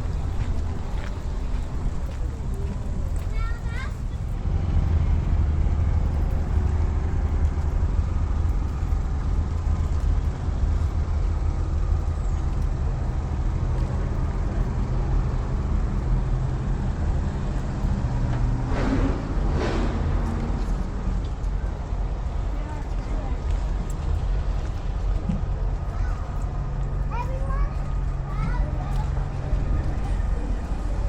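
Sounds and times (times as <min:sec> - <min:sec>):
truck engine droning: 0:00.0 - 0:31.0.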